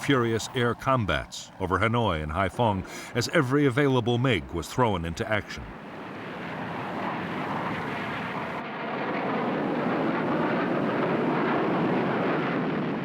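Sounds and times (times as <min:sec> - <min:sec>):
jet aircraft engine rush: 0:00.0 - 0:13.0.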